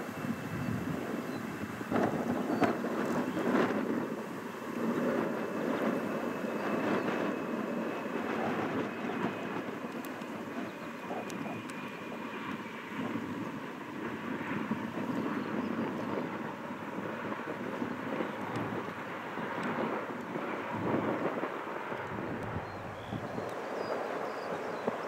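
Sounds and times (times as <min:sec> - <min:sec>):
jet engine rushing with whine: 0:00.0 - 0:25.0.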